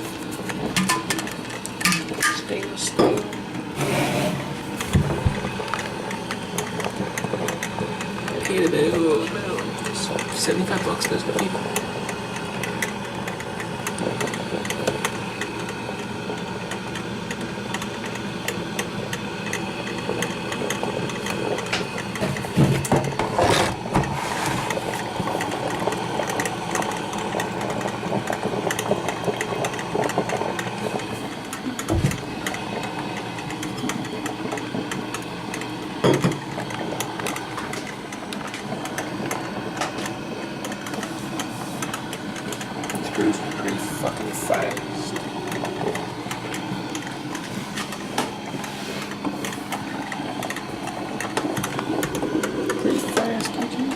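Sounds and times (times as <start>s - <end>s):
coffee maker humming: 0.0s - 53.9s.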